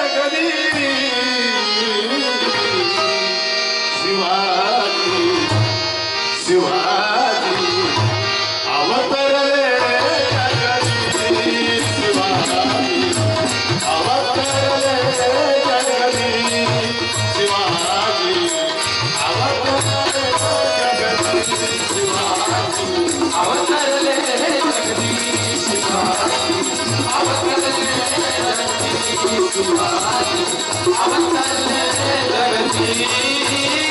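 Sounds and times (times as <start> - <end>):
harmonium chords: 0.0 - 33.9
man singing: 0.0 - 33.9
tabla drums: 0.0 - 33.9.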